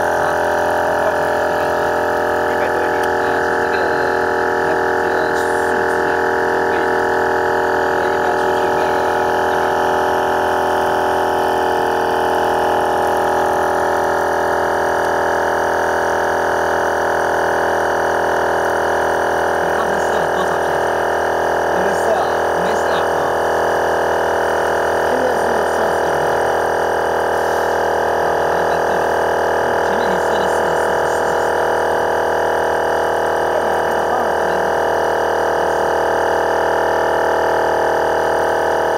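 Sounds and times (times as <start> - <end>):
portable air compressor running: 0.0 - 38.9.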